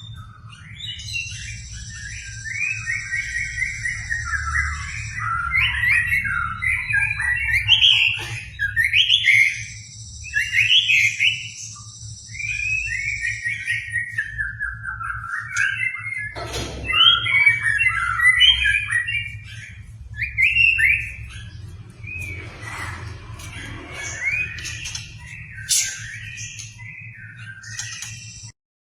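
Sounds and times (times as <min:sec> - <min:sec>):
bird singing whistled phrases: 0:00.0 - 0:22.8, 0:23.6 - 0:28.5.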